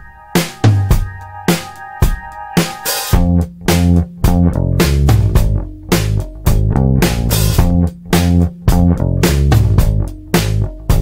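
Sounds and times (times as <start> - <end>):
bass and guitar music with beat: 0.0 - 11.0.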